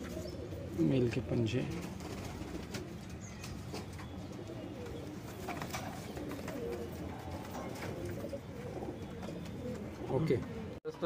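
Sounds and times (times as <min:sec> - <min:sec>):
pigeons cooing: 0:00.0 - 0:10.8.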